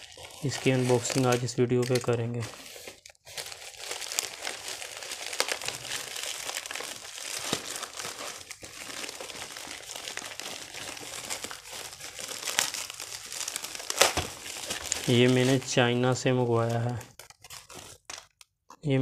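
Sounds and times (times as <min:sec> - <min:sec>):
plastic mailer bag crinkling and tearing: 0:00.0 - 0:18.6.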